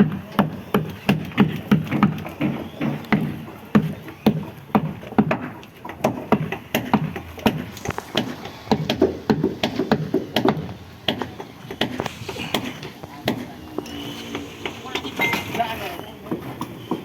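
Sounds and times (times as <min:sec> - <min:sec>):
hand tools knocking on wood: 0:00.0 - 0:17.0.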